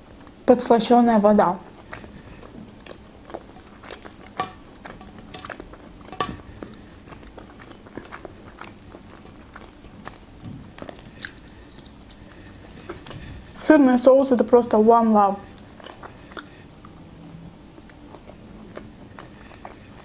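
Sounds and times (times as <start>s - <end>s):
person chewing food: 1.6s - 13.6s, 15.4s - 20.0s.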